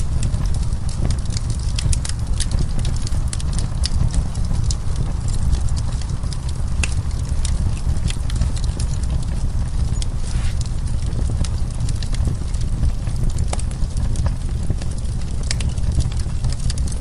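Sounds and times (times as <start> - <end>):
burning wood crackling: 0.0 - 17.0.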